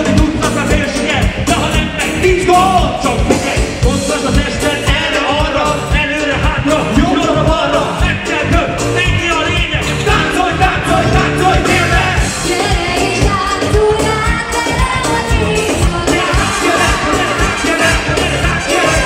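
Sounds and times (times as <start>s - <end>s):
bass guitar: 0.0s - 19.0s
live hip-hop band playing: 0.0s - 19.0s
steady drum beat: 0.0s - 19.0s
vocals at microphones: 0.0s - 19.0s.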